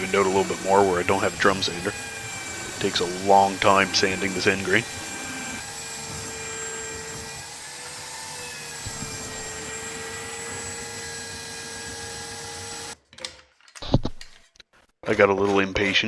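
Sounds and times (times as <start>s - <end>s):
belt sander on wood: 0.0s - 13.0s.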